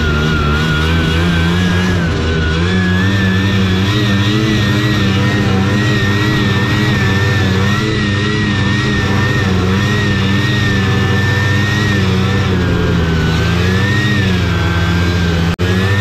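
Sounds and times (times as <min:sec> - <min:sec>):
high wavering whine: 0:00.0 - 0:16.0
snowmobile engine running: 0:00.0 - 0:16.0.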